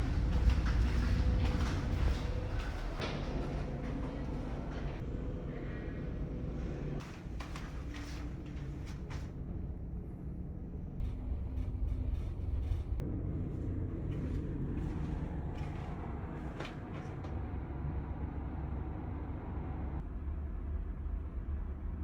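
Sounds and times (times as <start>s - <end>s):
ship engine and hull rumble: 0.0s - 22.0s.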